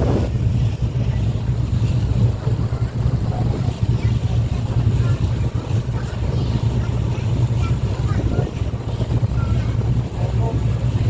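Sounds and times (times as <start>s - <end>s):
motorboat engine droning: 0.0s - 11.0s
water rushing past hull: 0.0s - 11.0s
wind noise: 0.0s - 11.0s.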